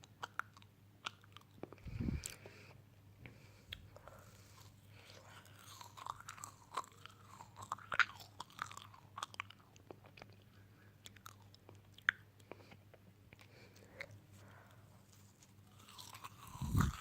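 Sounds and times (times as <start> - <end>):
chewing and crunching food: 0.0 - 2.5, 3.3 - 17.0.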